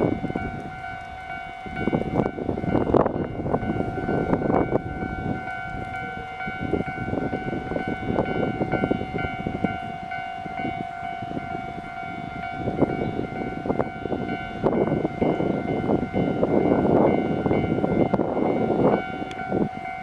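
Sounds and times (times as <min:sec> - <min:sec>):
level crossing warning bell: 0:00.0 - 0:20.0
train rumbling over rails: 0:00.0 - 0:20.0.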